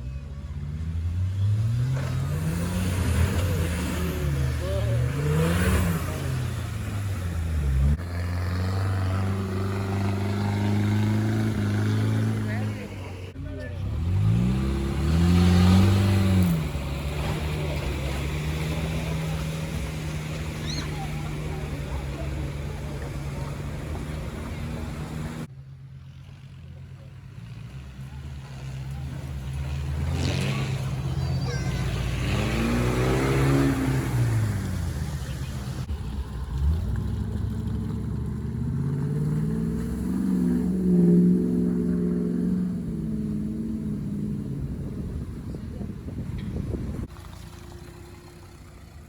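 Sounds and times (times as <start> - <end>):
car engine revving: 0.0 - 25.5, 26.1 - 49.0.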